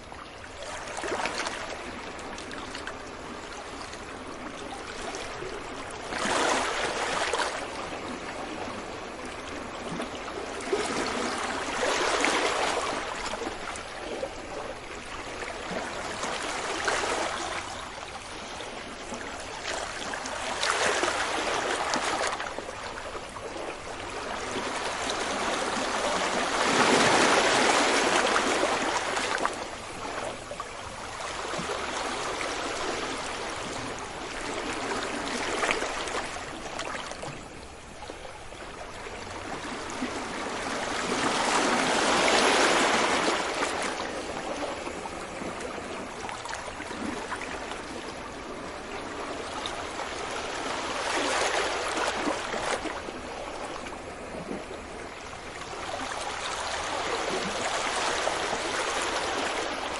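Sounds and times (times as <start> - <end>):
sea waves on beach: 0.0 - 59.9.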